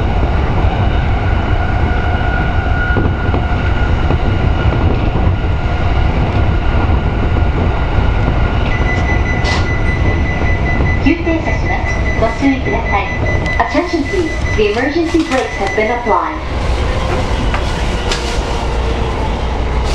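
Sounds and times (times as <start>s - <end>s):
train wheels rumbling on rail: 0.0s - 19.9s
train whine: 0.0s - 19.9s.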